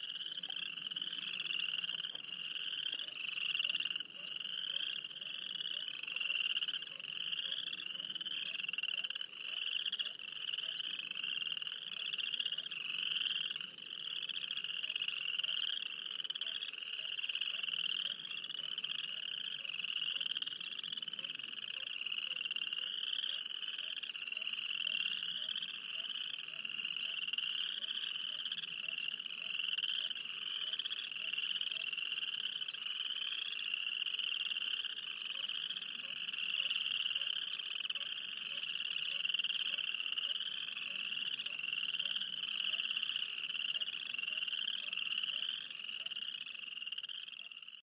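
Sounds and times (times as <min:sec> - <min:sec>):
chorus of frogs calling: 0:00.0 - 0:47.8.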